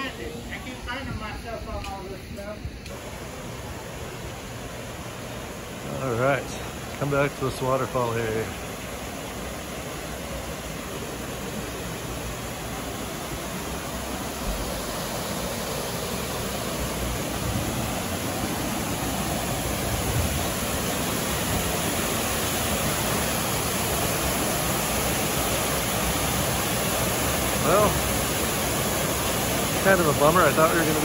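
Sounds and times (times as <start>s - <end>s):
waterfall pouring into a pool: 5.5s - 31.0s.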